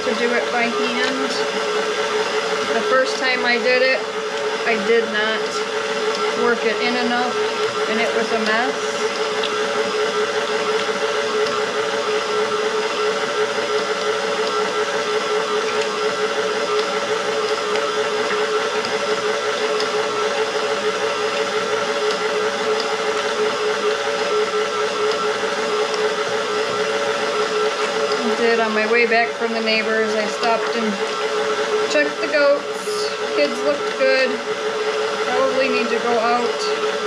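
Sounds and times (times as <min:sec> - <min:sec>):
stand mixer motor whine: 0:00.0 - 0:37.0.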